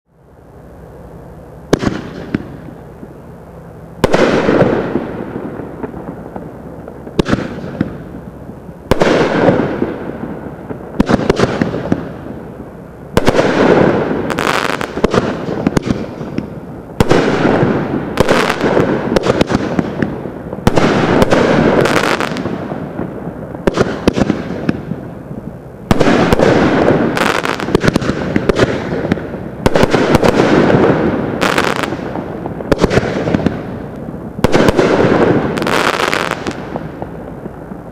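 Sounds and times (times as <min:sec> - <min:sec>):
firework shots with crackle: 0:01.6 - 0:37.9.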